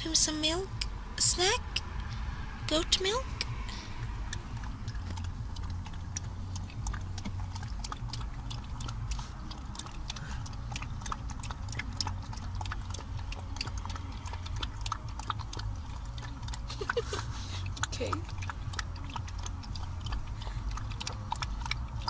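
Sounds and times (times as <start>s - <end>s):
puppy lapping milk: 0.0s - 22.0s
steady low rumble: 0.0s - 22.0s.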